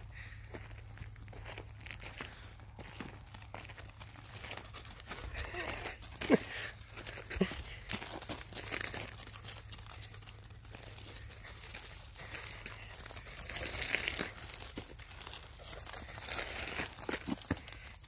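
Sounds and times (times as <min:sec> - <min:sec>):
steps and hooves on gravel: 0:00.0 - 0:18.0.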